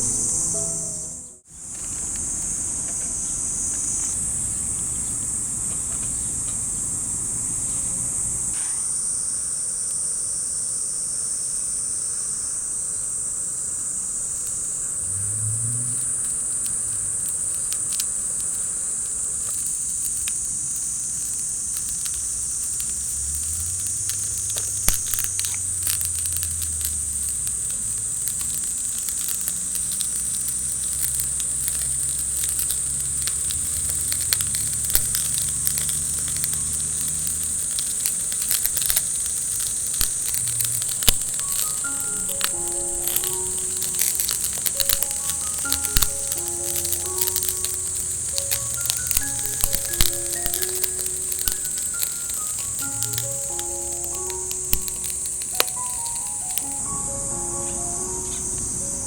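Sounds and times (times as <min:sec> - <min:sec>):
sharp crackles: 0:00.0 - 0:09.2, 0:13.8 - 0:59.0
insect chorus shrilling: 0:00.0 - 0:59.0.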